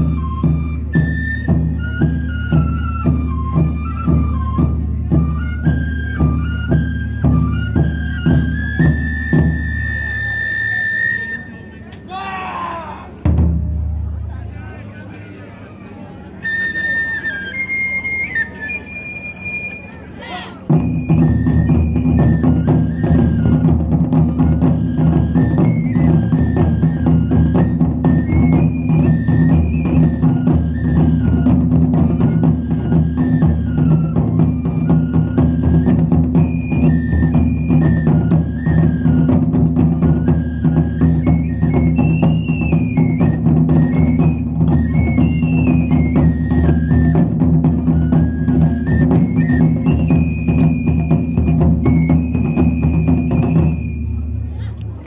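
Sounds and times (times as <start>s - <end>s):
taiko drums: 0.0s - 11.3s, 12.0s - 14.4s, 20.7s - 55.0s
bamboo flute melody: 0.0s - 13.5s, 15.8s - 55.0s.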